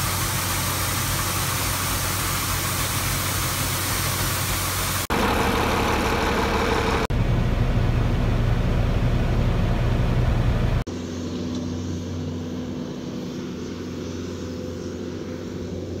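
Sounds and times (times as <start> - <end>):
farm machinery engines running: 0.0 - 16.0.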